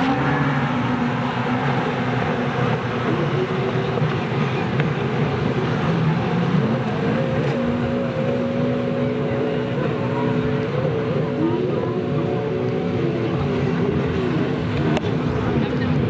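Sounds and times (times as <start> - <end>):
jet ski engines racing: 0.0 - 16.0.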